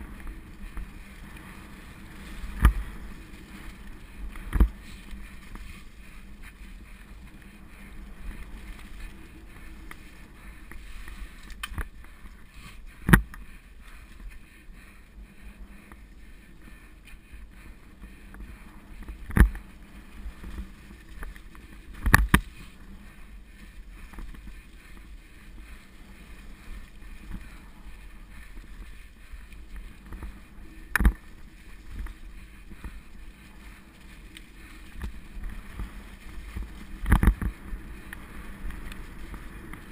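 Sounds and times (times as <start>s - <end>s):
bike tyres rumbling and rattling: 0.0s - 39.9s.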